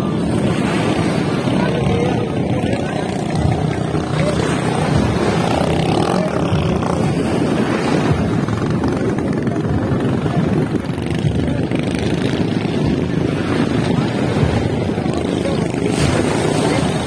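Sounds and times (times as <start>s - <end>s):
boat engines droning: 0.0s - 17.0s
choppy sea: 0.0s - 17.0s
wind rumbling on microphone: 0.0s - 17.0s.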